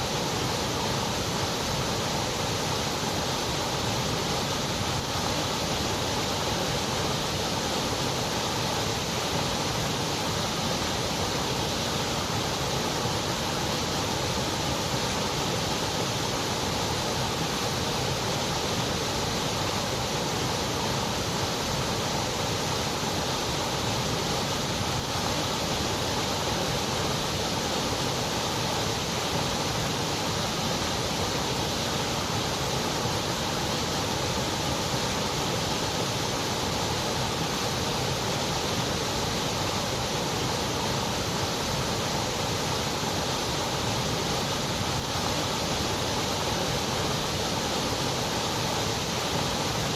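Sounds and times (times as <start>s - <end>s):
white noise hiss: 0.0s - 49.9s.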